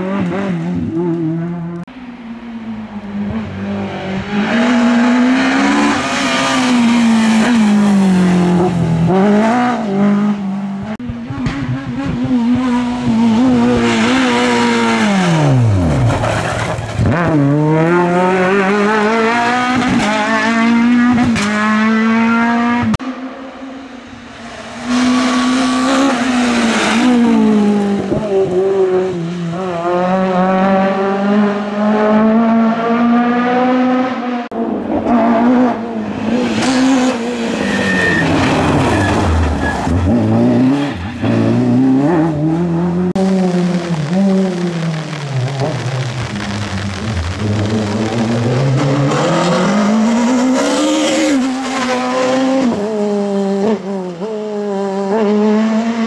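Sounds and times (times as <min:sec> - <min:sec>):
rally car engine at full throttle: 0:00.0 - 0:56.0.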